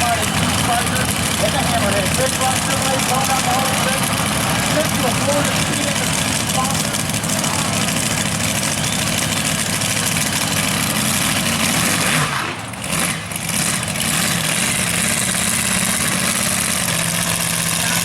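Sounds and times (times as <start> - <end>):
truck engine running loud: 0.0 - 18.0.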